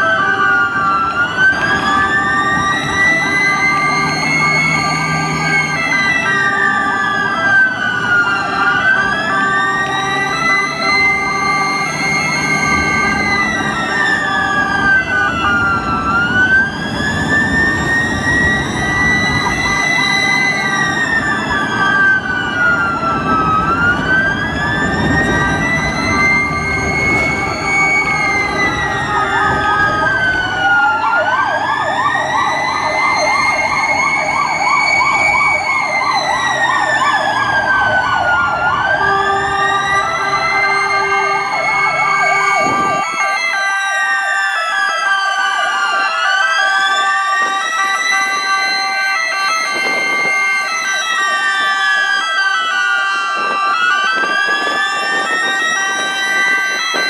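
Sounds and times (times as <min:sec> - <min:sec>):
engine and road noise: 0:00.0 - 0:57.0
siren wailing: 0:00.0 - 0:57.0
siren warbling rapidly: 0:00.0 - 0:57.0.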